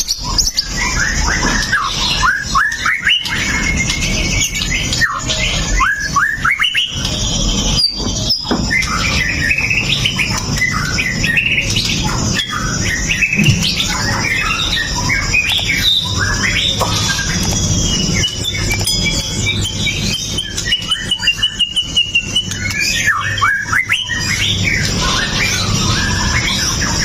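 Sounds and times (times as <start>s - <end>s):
songbird whistling and chattering: 0.0s - 27.0s.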